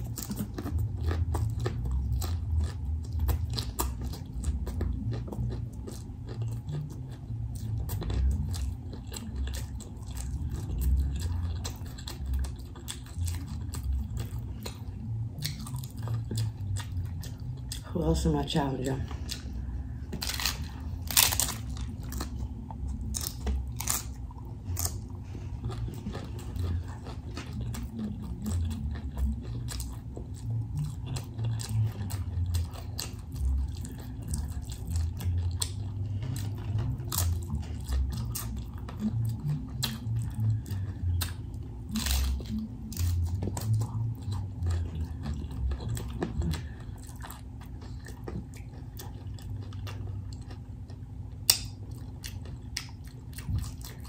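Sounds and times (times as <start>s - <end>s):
taco shell crunching: 0.0s - 54.0s
wet chewing: 0.0s - 54.0s.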